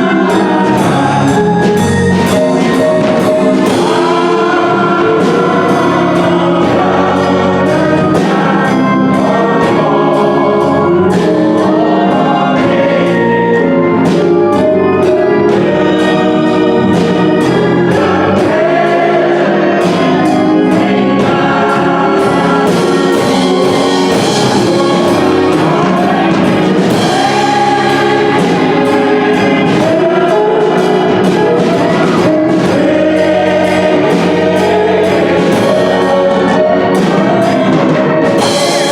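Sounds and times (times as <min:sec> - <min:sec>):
church choir singing gospel: 0:00.0 - 0:38.9
instrumental accompaniment: 0:00.0 - 0:38.9.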